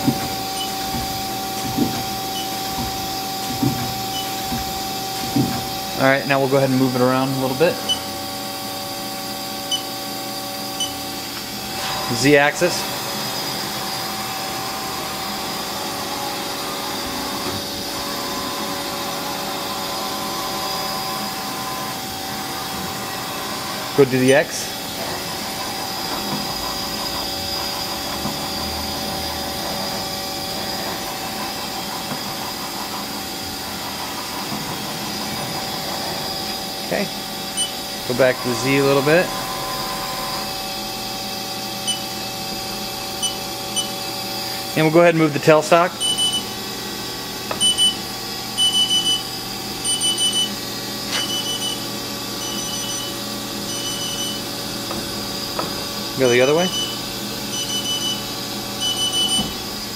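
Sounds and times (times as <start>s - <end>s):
machine running hum: 0.0s - 59.9s
servo whine: 0.0s - 59.9s.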